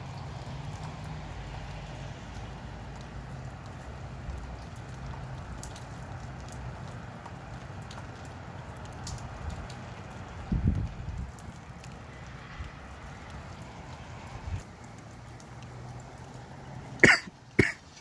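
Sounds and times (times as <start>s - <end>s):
rain falling: 0.0s - 18.0s
sharp drips: 0.0s - 18.0s.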